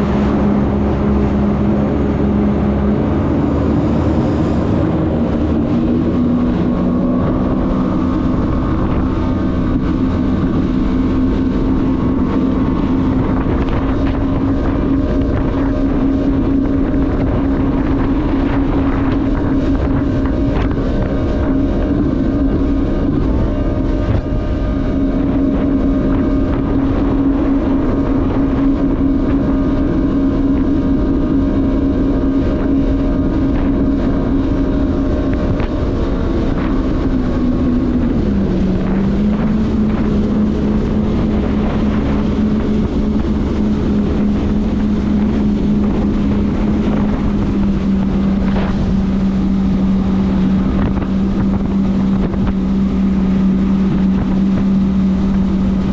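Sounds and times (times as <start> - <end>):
jet ski engine running: 0.0 - 55.9
wind buffeting microphone: 0.0 - 55.9.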